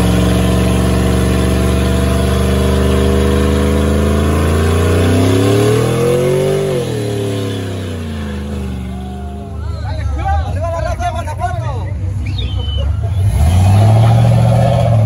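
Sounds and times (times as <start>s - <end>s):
truck engine revving high: 0.0s - 10.1s, 12.0s - 15.0s
tires spinning: 0.0s - 15.0s.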